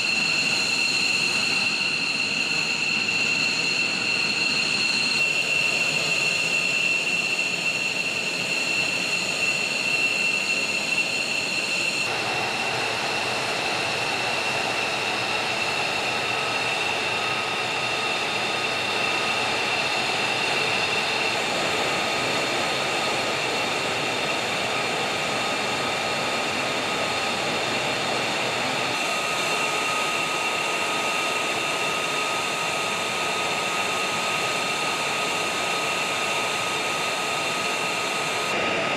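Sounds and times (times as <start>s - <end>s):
jet engines whining: 0.0s - 38.9s
rush of engine noise: 0.0s - 38.9s.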